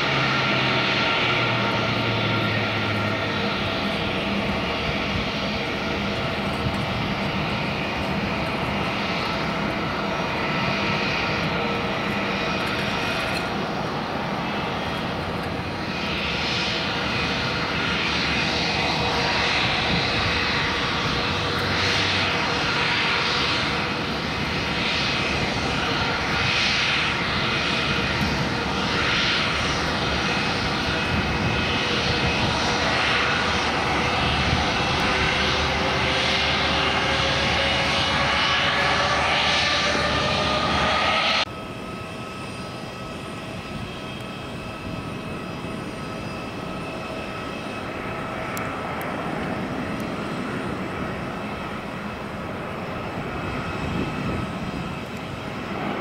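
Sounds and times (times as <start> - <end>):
airliner engines running: 0.0 - 56.0.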